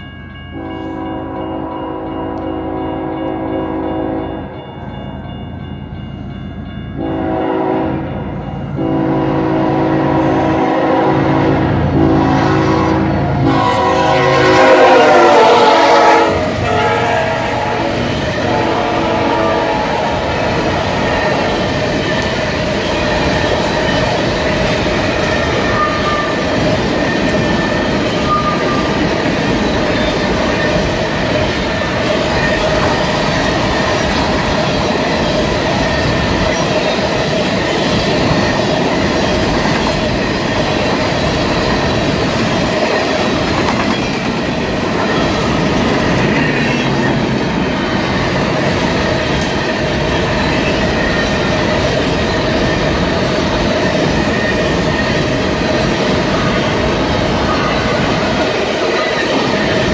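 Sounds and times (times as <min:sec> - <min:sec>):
train wheels rumbling and clattering: 0:06.6 - 0:59.9.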